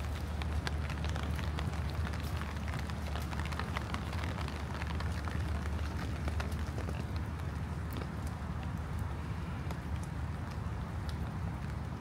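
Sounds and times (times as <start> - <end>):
low steady rumble: 0.0 - 12.0
rain drops ticking: 0.0 - 12.0.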